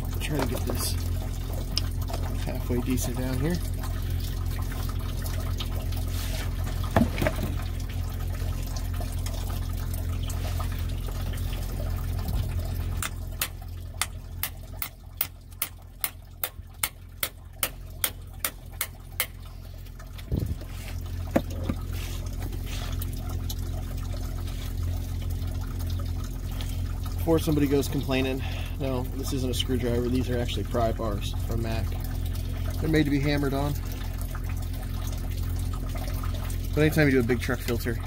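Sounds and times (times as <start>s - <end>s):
liquid pouring into plastic tub: 0.0s - 38.0s.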